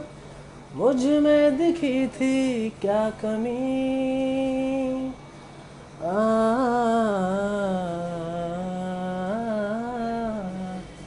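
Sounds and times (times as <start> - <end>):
man singing: 0.7 - 5.2, 6.0 - 10.9.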